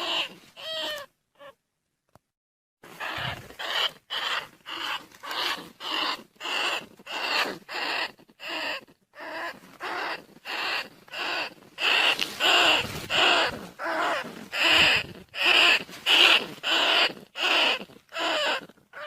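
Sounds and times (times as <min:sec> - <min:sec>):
rats squeaking: 0:00.0 - 0:01.6, 0:02.9 - 0:19.0.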